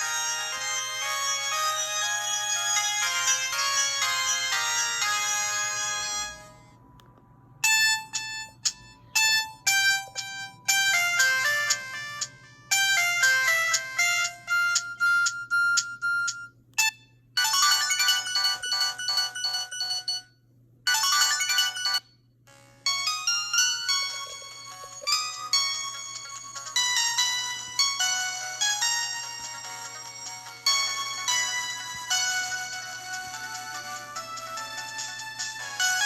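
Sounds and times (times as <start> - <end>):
electronic phone ringtone melodies: 0.0 - 6.8, 7.6 - 20.3, 20.9 - 36.0.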